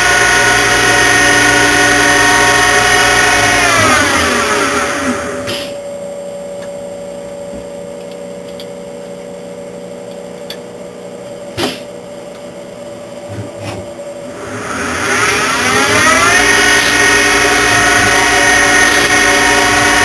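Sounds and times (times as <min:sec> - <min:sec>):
machine drives humming: 0:00.0 - 0:20.0
spindle motor whine: 0:00.0 - 0:20.0.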